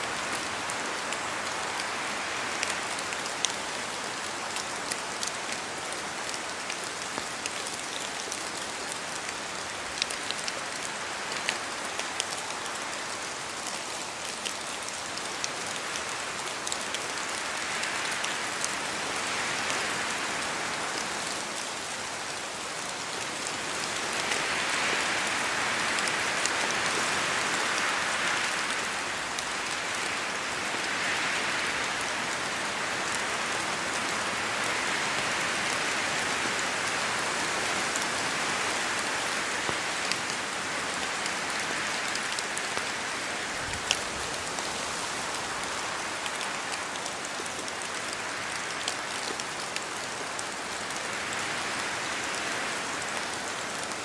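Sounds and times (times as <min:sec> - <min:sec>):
steady rain in a forest: 0:00.0 - 0:54.0
wind: 0:00.0 - 0:54.0.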